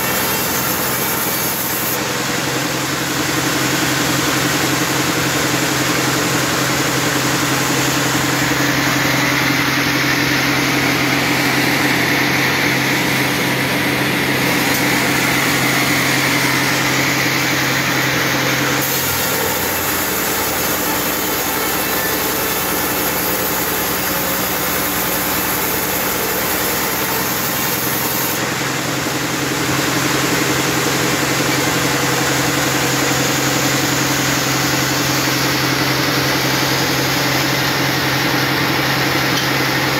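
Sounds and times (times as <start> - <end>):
sawmill mechanical hum: 0.0 - 39.9.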